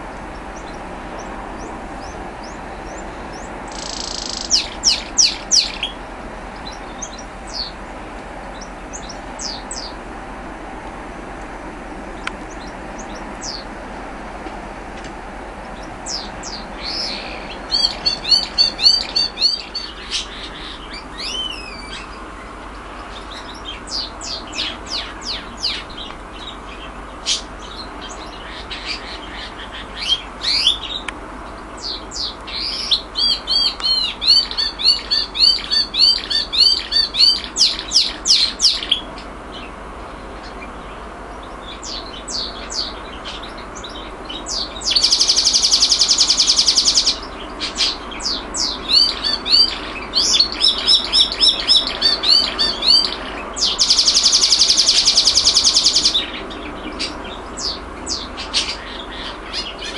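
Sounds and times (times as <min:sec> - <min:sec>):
canary singing: 0:00.0 - 0:10.2, 0:11.4 - 0:14.2, 0:15.4 - 0:59.9
canary rapid rolling trill: 0:00.0 - 0:10.6, 0:11.9 - 0:14.3, 0:15.3 - 0:59.9.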